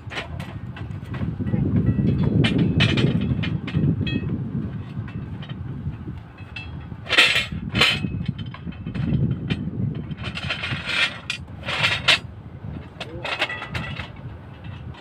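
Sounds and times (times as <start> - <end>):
low rumble: 0.0 - 15.0
steel scraping and clanking: 0.0 - 15.0.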